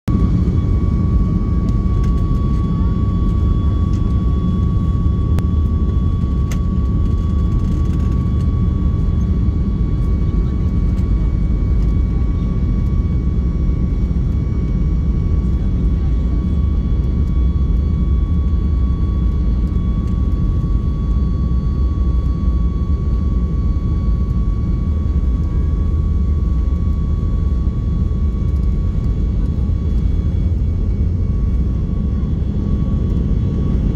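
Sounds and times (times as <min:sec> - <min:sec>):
jet engines and airflow rumble: 0:00.1 - 0:33.9.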